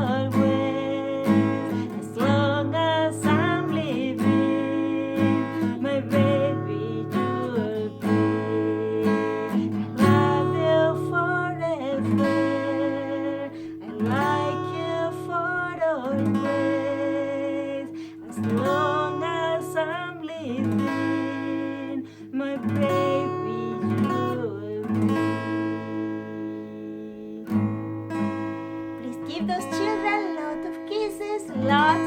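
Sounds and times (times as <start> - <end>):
person singing lullaby: 0.0 - 25.1, 29.0 - 32.0
acoustic guitar strumming: 0.0 - 32.0.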